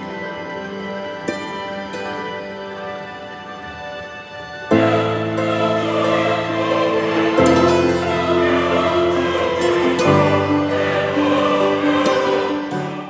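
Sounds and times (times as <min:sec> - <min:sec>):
music with held chords: 0:00.0 - 0:13.0.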